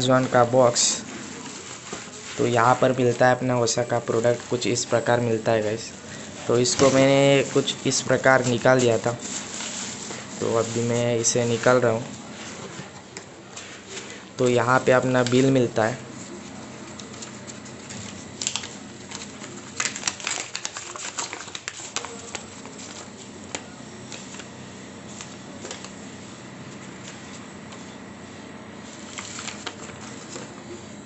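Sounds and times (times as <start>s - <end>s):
paper crinkling and rustling: 0.0s - 28.1s, 28.8s - 31.0s
low background hum: 0.0s - 31.0s.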